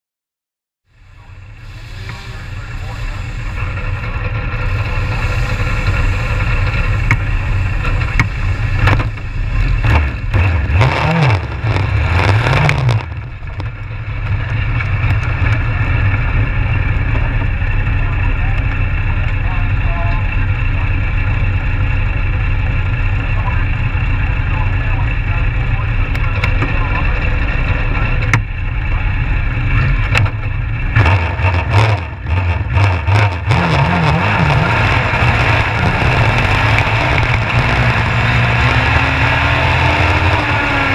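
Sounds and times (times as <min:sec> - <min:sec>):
motorcycle engine idling and revving: 0:00.9 - 0:40.9.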